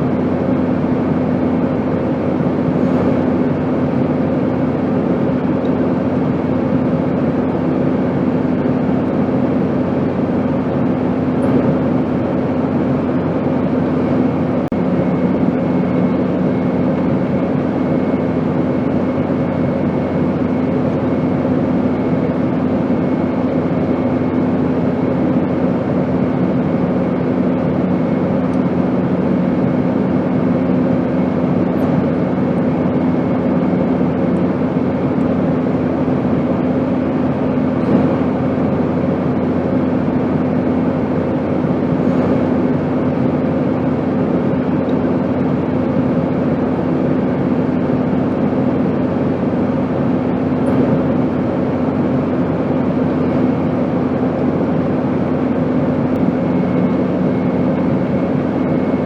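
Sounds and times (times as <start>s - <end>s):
airplane drone: 0.0s - 59.0s.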